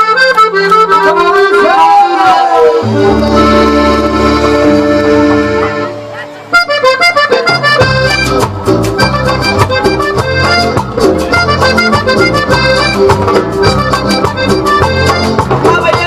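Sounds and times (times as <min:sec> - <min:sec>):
accordion melody: 0:00.0 - 0:16.0
high notes lead-in: 0:00.0 - 0:16.0
bass: 0:02.4 - 0:16.0
percussion beat: 0:02.8 - 0:16.0.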